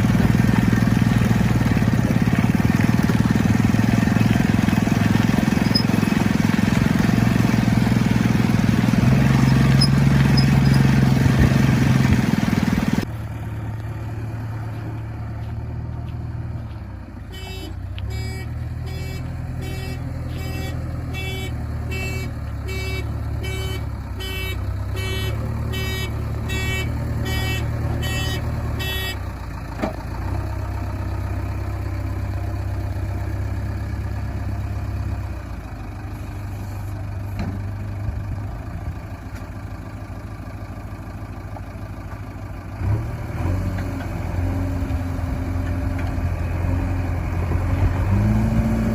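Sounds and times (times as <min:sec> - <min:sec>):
heavy diesel engine: 0:00.0 - 0:48.9.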